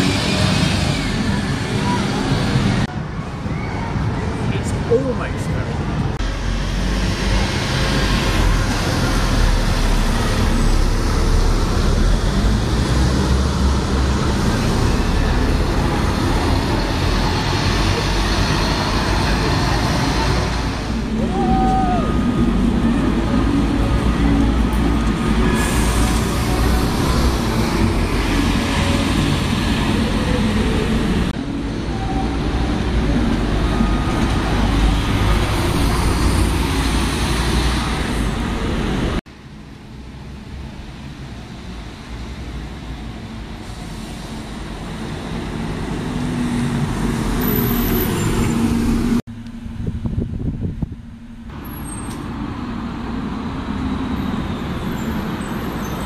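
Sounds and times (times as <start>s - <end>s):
bus engines running: 0.0s - 56.0s
street traffic: 0.0s - 56.0s.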